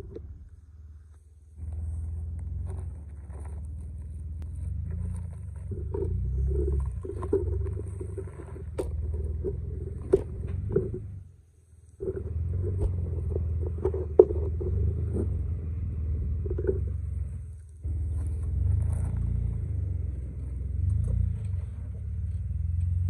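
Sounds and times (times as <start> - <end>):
car engine rumbling at low speed: 0.0 - 23.0.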